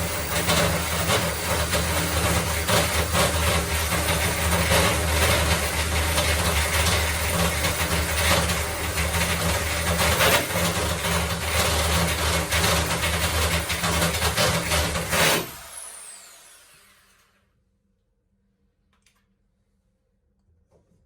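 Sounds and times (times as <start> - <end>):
electric drill boring into wood: 0.0 - 17.4.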